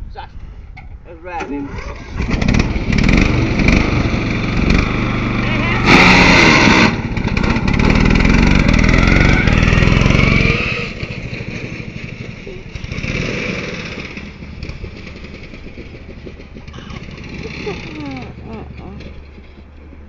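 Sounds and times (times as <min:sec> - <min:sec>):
lawnmower engine running: 0:01.5 - 0:20.0.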